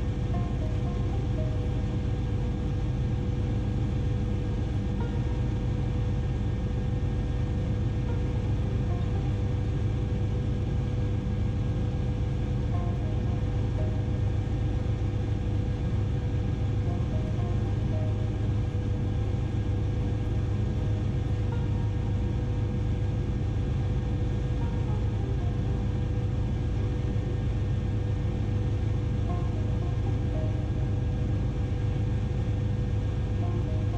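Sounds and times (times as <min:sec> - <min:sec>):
helicopter drone in flight: 0:00.0 - 0:33.9.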